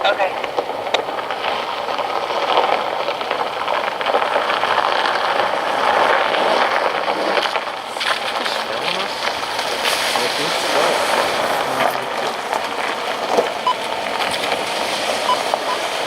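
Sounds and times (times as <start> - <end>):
radio scanner static hiss: 0.0 - 16.0.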